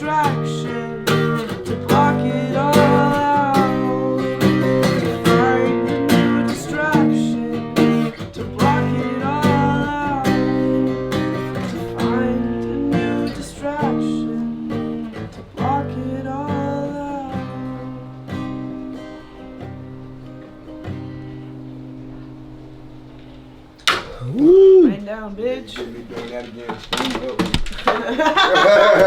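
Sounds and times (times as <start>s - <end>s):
acoustic guitar music: 0.0s - 28.1s.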